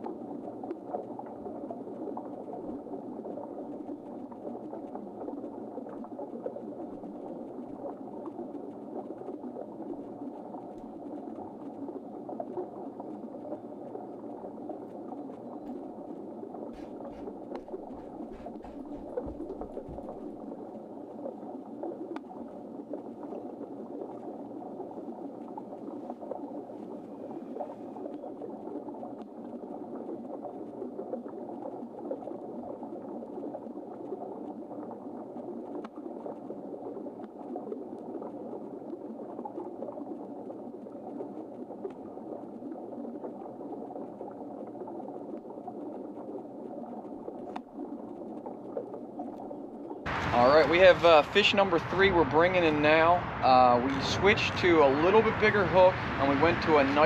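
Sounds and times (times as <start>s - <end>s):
bubbling churning water: 0.0s - 57.0s.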